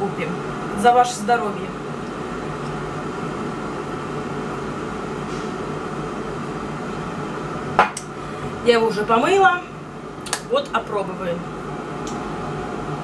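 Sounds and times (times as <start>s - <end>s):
appliance drone: 0.0s - 13.0s.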